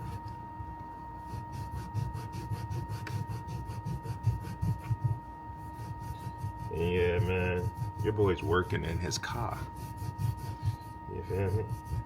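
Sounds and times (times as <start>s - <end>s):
high-pitched hum: 0.0s - 12.0s
rubbing and handling noises: 1.1s - 12.0s.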